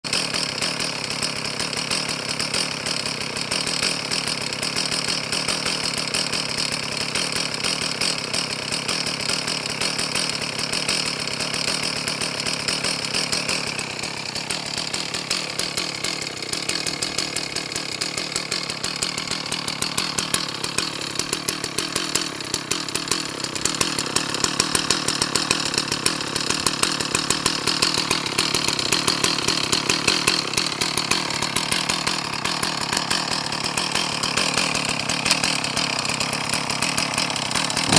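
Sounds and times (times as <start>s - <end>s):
chainsaw engine running: 0.0s - 37.9s.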